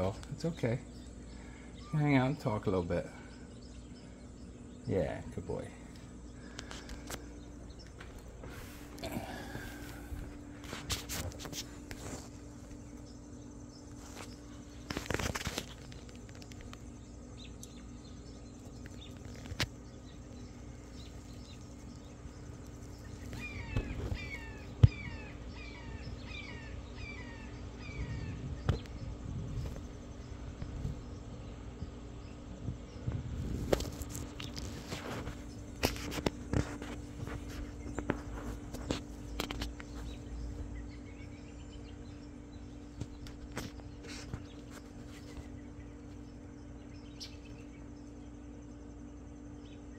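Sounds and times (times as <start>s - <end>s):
small bird chirping: 0.0s - 49.9s
steady low hum: 0.0s - 49.9s.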